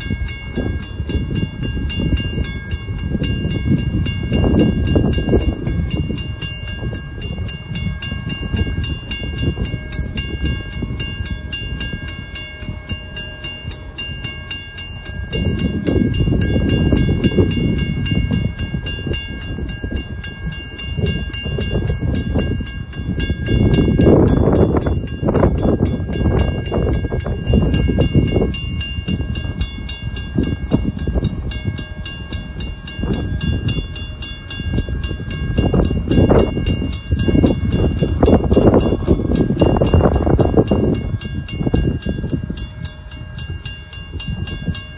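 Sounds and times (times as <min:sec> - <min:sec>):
gusty low rumble: 0:00.0 - 0:44.9
mechanical crossing bell ringing: 0:00.0 - 0:44.9.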